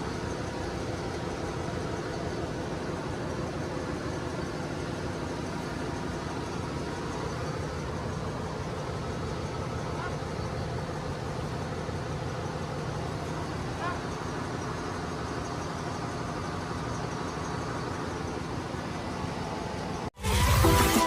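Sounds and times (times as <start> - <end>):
engine room machinery drone: 0.0 - 21.0.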